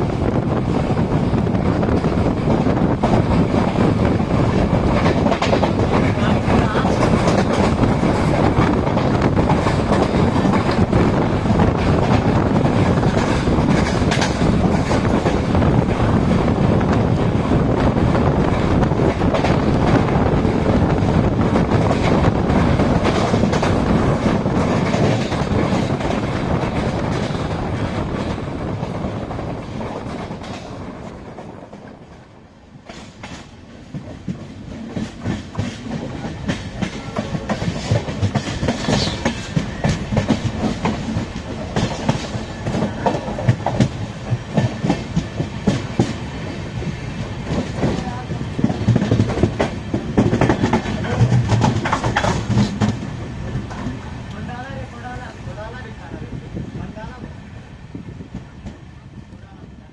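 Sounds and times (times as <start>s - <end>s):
train wheels clacking on rails: 0.0s - 59.6s.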